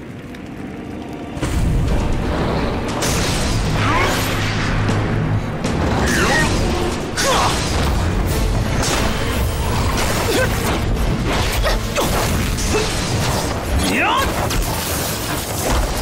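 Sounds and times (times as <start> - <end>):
dramatic soundtrack music: 0.0 - 16.0.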